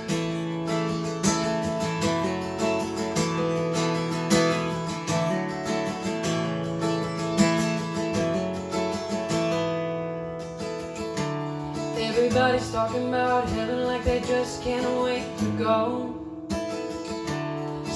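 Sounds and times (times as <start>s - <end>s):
acoustic guitar strumming chords: 0.0s - 17.9s.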